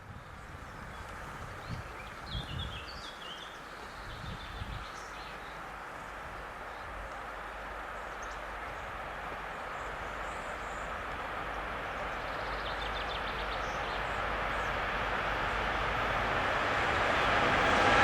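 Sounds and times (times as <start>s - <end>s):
train approaching: 1.3s - 18.0s.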